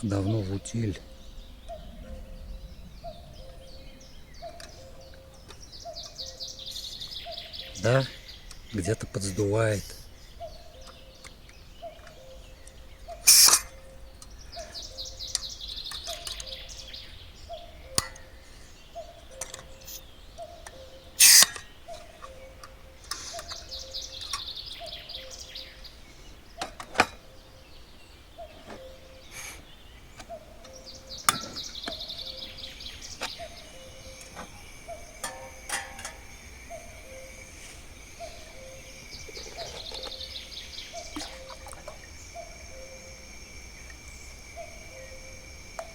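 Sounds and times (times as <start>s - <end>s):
songbird singing high phrase: 0.0s - 45.9s.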